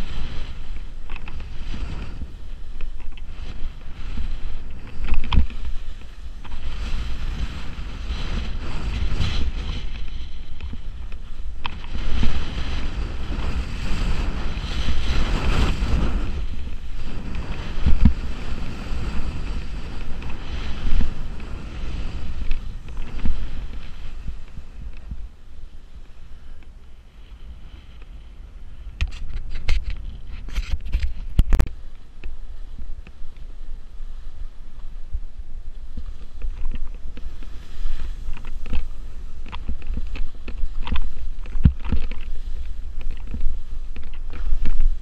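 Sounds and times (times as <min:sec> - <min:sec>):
skis swishing through slush: 0:00.0 - 0:28.6, 0:35.8 - 0:45.0
wind buffeting microphone: 0:00.0 - 0:45.0.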